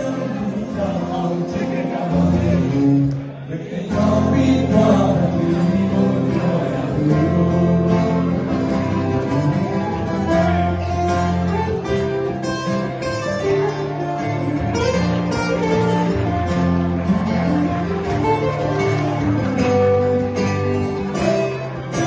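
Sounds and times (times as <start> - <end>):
acoustic guitars playing: 0.0 - 22.0.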